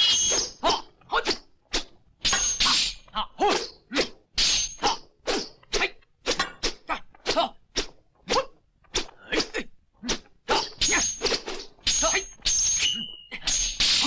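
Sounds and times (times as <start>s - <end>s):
weapon swishes and strikes: 0.0s - 14.0s
fighters shouting and grunting: 0.6s - 13.6s.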